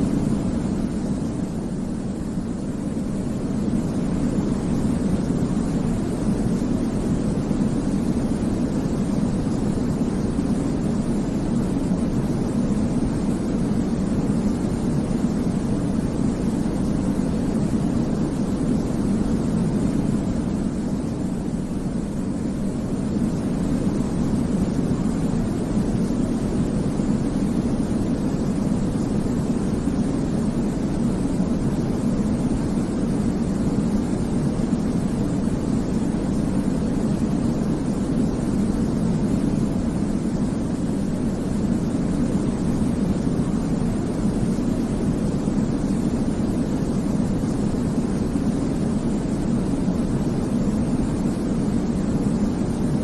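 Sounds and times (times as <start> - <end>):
rumbling white noise hiss: 0.0 - 53.0.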